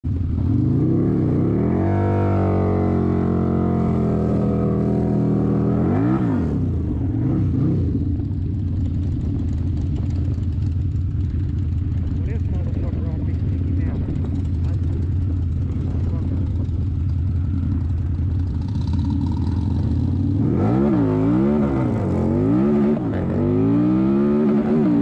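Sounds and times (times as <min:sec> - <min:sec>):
motorcycle engine revving: 0:00.1 - 0:25.0.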